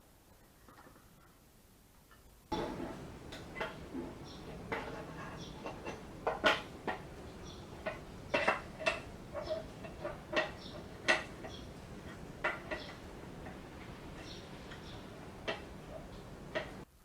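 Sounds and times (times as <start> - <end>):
metal clinks and knocks: 2.5 - 16.8.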